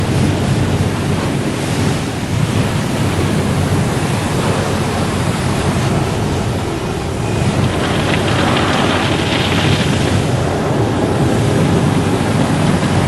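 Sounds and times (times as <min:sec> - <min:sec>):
rush of spraying water: 0:00.0 - 0:13.0.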